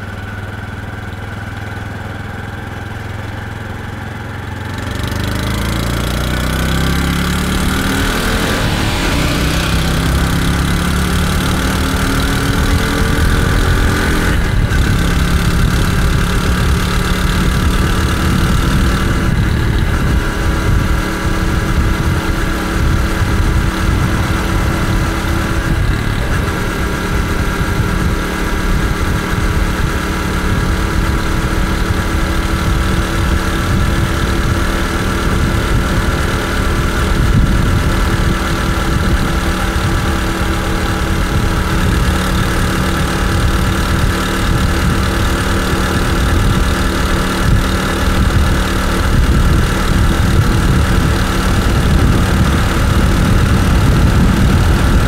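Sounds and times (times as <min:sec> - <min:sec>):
motorcycle engine pulling away: 0:00.0 - 0:55.0
wind noise: 0:05.0 - 0:55.0.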